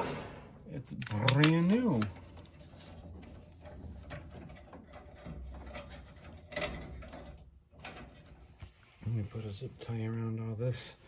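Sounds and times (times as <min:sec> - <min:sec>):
wires rustling and clicking: 0:00.8 - 0:10.0.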